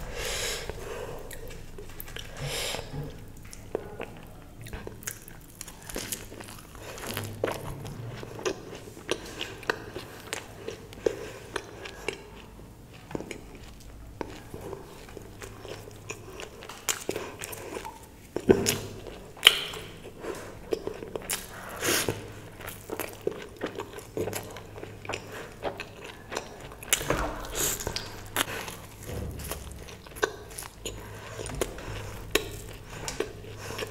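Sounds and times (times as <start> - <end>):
person chewing food: 0.0 - 33.9
crunching and smacking: 0.6 - 33.9.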